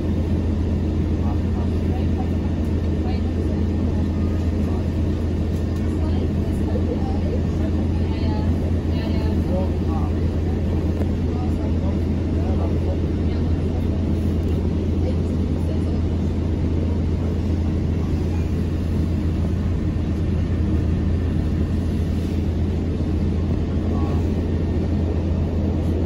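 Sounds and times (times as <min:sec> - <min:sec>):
bus engine drone: 0:00.0 - 0:26.0
rumbling road noise: 0:00.0 - 0:26.0.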